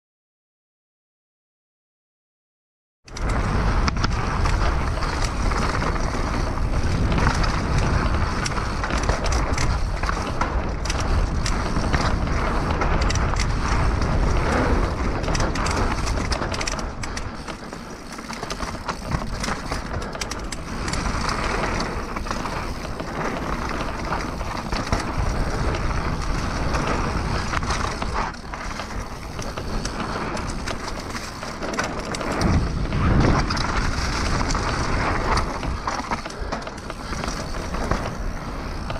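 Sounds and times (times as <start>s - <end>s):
bike rattling over bumps: 3.1s - 38.9s
bike tyres crunching over dirt: 3.1s - 38.9s.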